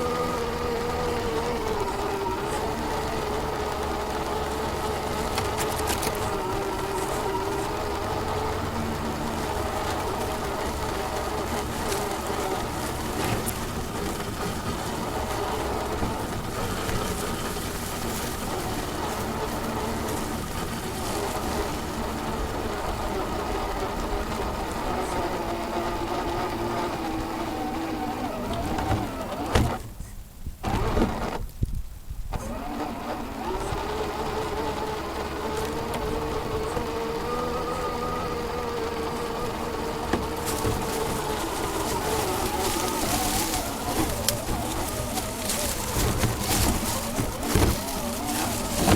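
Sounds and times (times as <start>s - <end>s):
toy truck electric motor whining: 0.0s - 29.9s, 30.6s - 31.5s, 32.4s - 48.9s.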